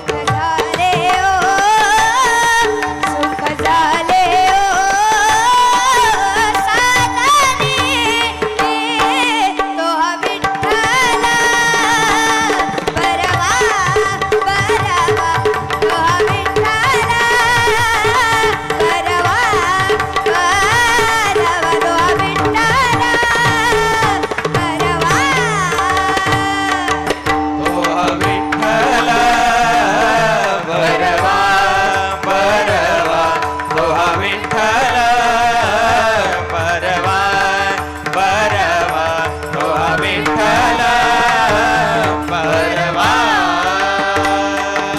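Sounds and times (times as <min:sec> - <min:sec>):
tabla playing: 0:00.0 - 0:44.9.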